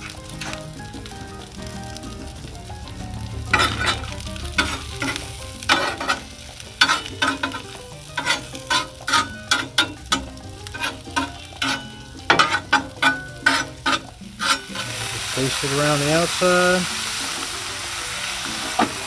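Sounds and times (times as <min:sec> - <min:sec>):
spatula scraping griddle: 0:00.0 - 0:00.8, 0:03.3 - 0:19.0
fries sizzling: 0:00.0 - 0:19.0.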